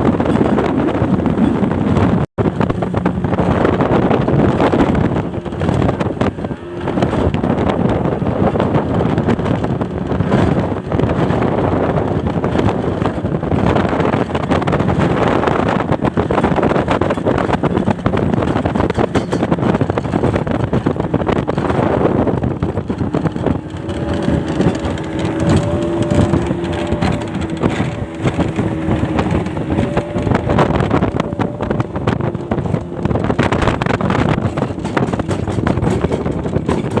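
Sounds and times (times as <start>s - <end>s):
outboard motor running: 0.0s - 37.0s
water rushing past hull: 0.0s - 37.0s
wind on microphone: 0.0s - 37.0s.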